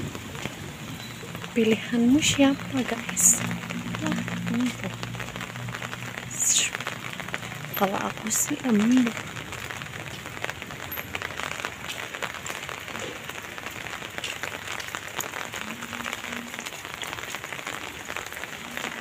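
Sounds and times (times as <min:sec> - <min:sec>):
rain on wet road: 0:00.0 - 0:19.0.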